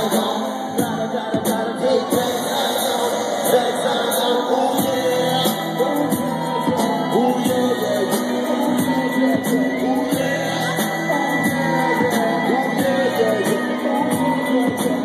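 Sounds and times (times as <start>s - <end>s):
music with steady beat: 0.0s - 15.0s
people singing into microphones: 0.0s - 15.0s.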